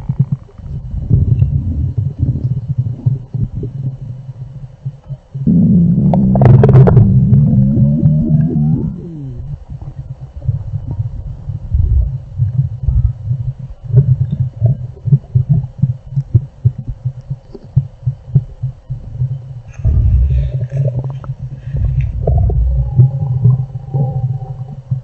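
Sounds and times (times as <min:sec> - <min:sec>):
stomach growling and gurgling: 0:00.0 - 0:25.0.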